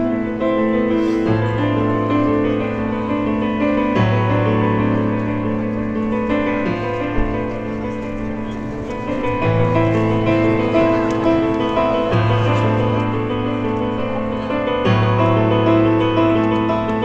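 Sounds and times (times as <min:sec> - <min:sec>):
piano playing slow chords: 0:00.0 - 0:17.0.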